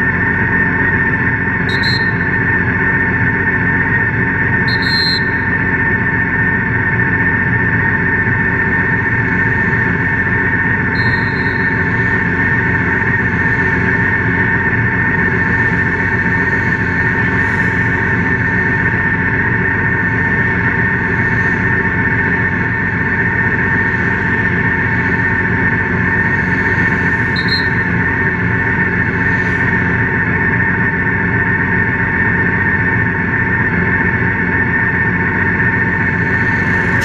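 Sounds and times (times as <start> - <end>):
constant high whine: 0.0 - 37.0.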